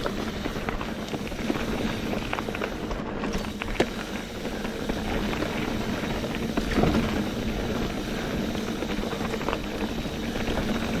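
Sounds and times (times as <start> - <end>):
bike clicks and knocks: 0.0 - 11.0
bike tyres crunching on gravel: 0.0 - 11.0.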